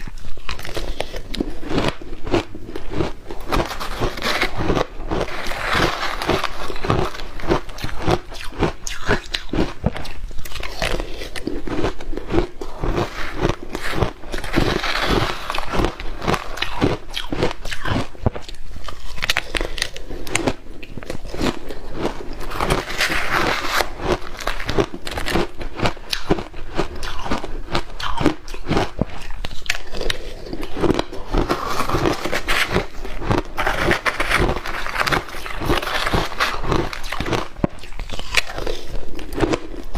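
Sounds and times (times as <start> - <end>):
biting and crunching ice: 0.0 - 39.9.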